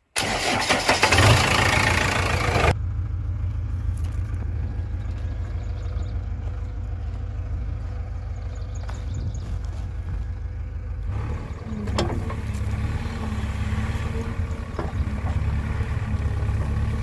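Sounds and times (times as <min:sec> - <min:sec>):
diesel engine running: 0:00.2 - 0:17.0.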